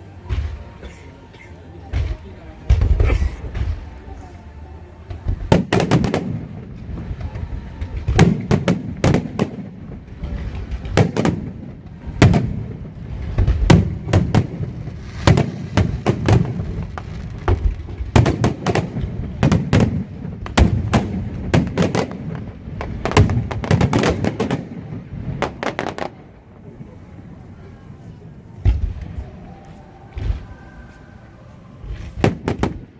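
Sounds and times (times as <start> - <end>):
fireworks exploding: 0.0 - 4.3, 5.0 - 32.9.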